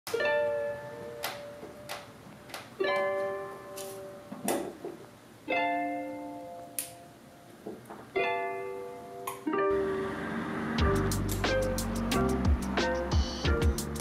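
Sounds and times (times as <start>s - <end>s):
plucked-string music: 0.1s - 14.0s.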